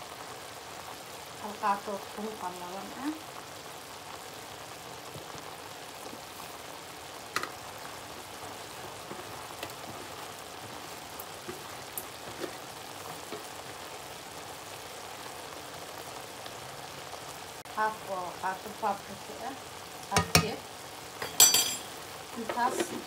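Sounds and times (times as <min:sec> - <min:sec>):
meat sizzling in a pan: 0:00.0 - 0:23.0.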